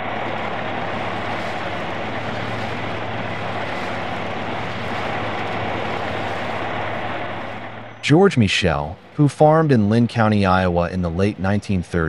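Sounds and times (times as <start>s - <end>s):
farm machinery running: 0.0s - 12.0s.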